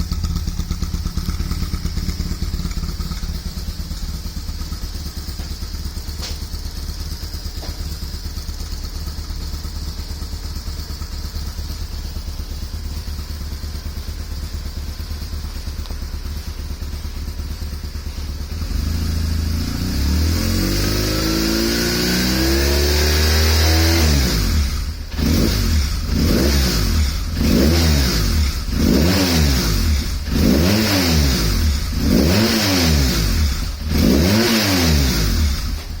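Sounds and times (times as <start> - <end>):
motorcycle engine idling: 0.0 - 36.0
motorcycle engine revving: 0.0 - 36.0.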